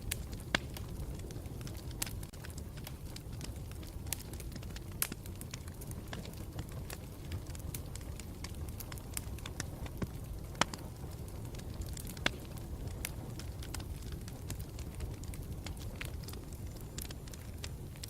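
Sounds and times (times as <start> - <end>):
campfire rumble: 0.0 - 18.0
fire crackles and pops: 0.0 - 18.0.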